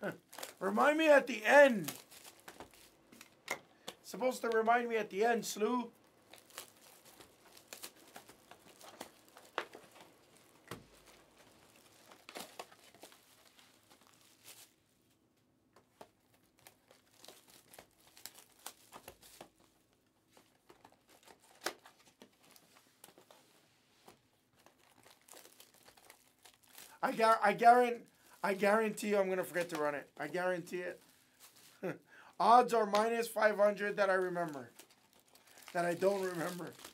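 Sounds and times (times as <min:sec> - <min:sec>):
plastic wrapping crinkling: 0:00.0 - 0:32.0, 0:32.6 - 0:36.9.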